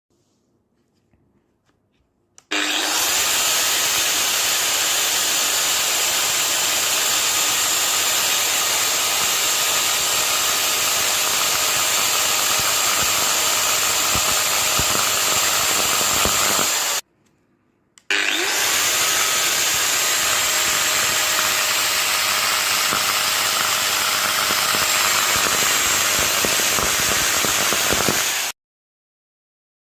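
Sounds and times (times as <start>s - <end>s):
angle grinder whining: 2.4s - 17.0s, 18.0s - 28.6s.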